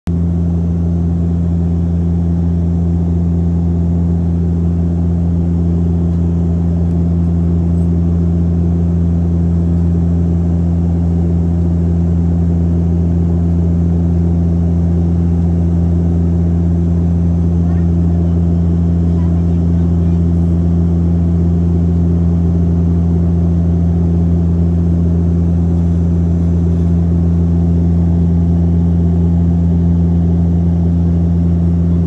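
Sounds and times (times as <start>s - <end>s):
aircraft engine drone in cabin: 0.1s - 32.0s.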